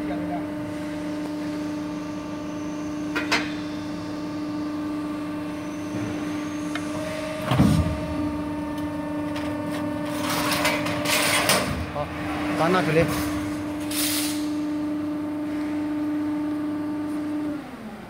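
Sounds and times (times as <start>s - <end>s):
hydraulic pump humming: 0.0s - 18.0s.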